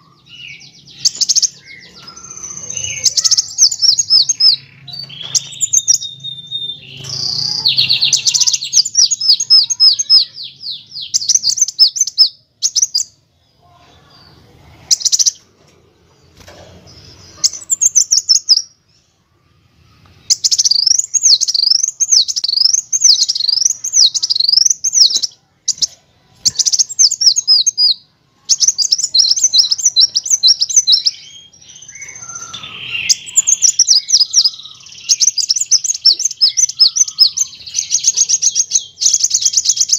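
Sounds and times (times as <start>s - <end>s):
sunbird chirping and trilling: 0.0s - 15.5s, 16.8s - 39.9s.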